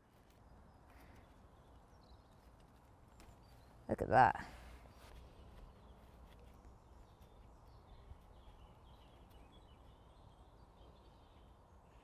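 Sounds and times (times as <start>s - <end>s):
distant bird chirps: 0.1s - 12.0s.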